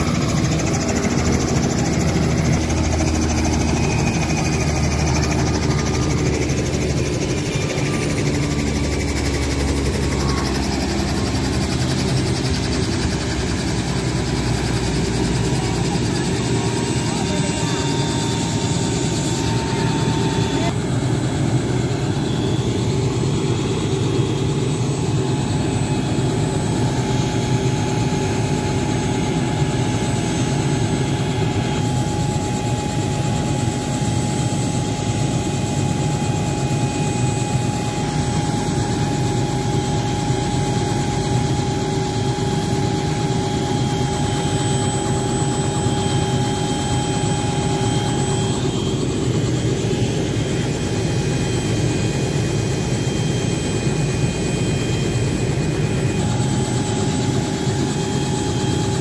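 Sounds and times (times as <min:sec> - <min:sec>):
helicopter turbine engine whine: 0:00.0 - 0:59.0.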